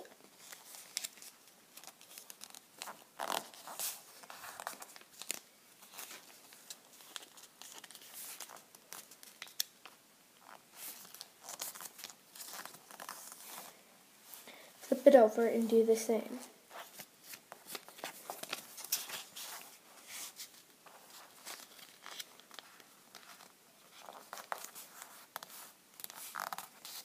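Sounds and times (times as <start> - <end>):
paper rustling and crinkling: 0.2 - 15.0, 16.7 - 27.0.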